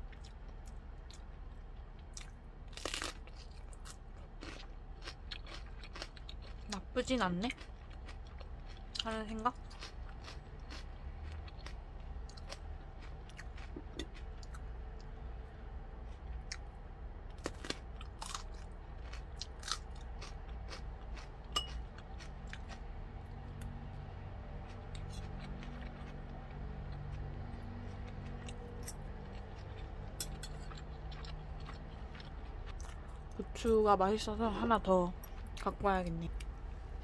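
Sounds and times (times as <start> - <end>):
crunching and chewing pepper: 0.0 - 15.2, 15.9 - 33.7.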